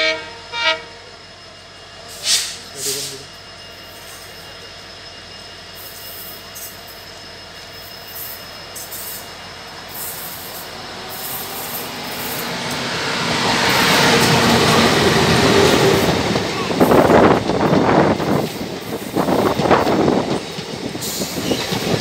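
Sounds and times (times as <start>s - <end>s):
train rumble and wheel noise: 0.0s - 22.0s.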